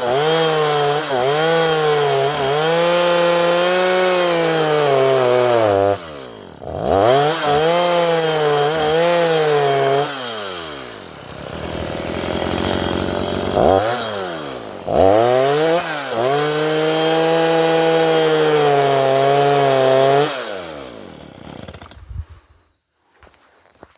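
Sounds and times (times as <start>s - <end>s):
chainsaw ripping wood: 0.0s - 22.3s.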